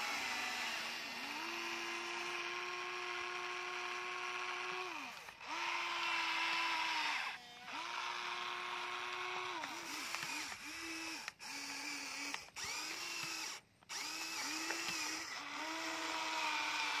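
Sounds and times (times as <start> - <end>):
toy electric motors whining: 0.0 - 17.0.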